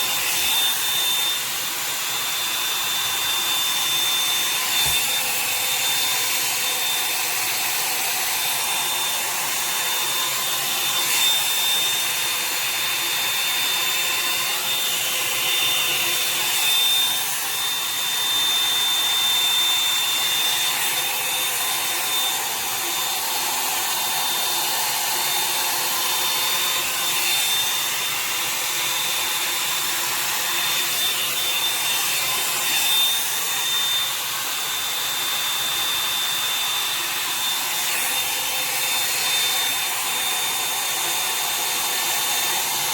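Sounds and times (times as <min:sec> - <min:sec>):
hair dryer brush running: 0:00.0 - 0:42.9.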